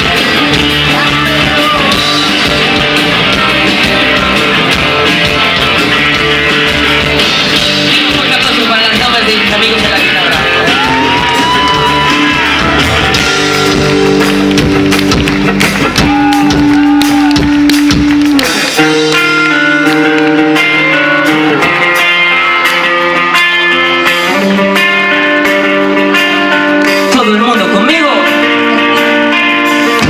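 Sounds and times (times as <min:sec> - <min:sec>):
bass guitar: 0:00.0 - 0:30.0
drums: 0:00.0 - 0:30.0
electric guitar melody with bent notes: 0:00.0 - 0:30.0.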